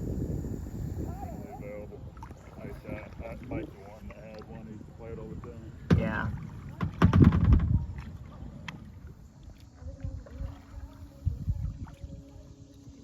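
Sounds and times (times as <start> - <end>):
kayak paddle strokes splashing: 0.0 - 13.0.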